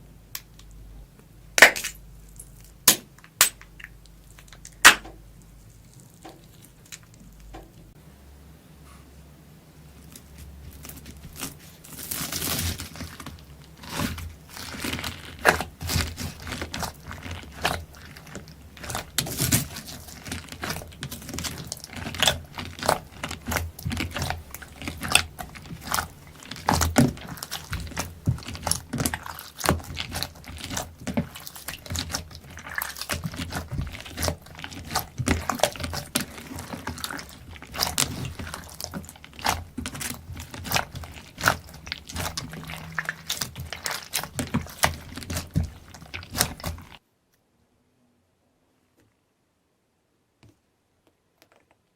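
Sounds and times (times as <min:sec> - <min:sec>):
slime popping and crackling: 0:01.6 - 0:07.6, 0:10.1 - 0:47.0.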